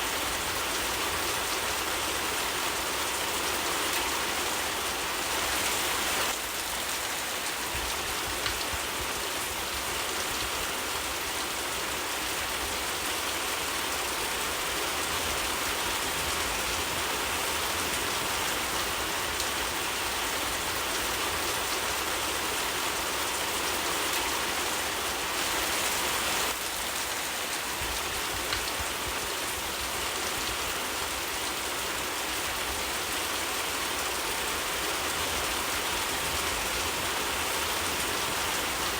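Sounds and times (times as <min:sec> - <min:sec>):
rain hissing on surfaces: 0:00.0 - 0:38.9.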